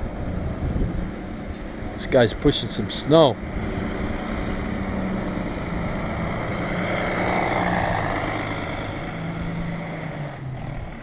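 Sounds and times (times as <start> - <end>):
snowplow pushing snow rush: 0.0 - 11.0
truck engine hum: 0.0 - 11.0.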